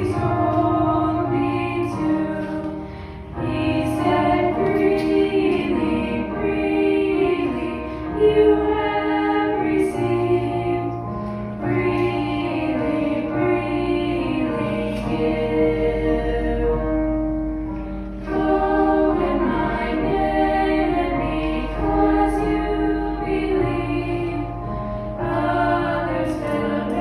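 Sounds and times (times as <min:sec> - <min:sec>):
choir singing a hymn: 0:00.0 - 0:27.0
sustained instrumental accompaniment: 0:00.0 - 0:27.0.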